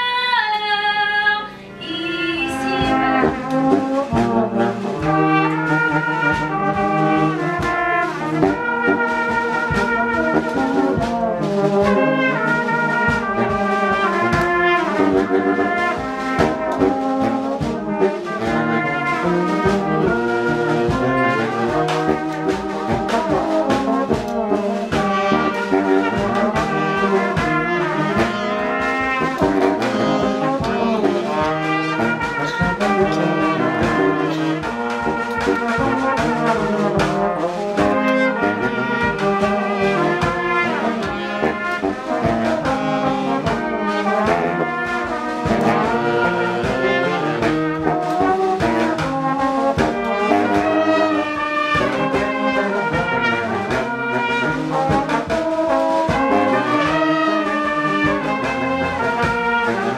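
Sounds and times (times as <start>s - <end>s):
brass band playing: 0.0s - 59.9s
bass drum beat: 2.6s - 59.9s.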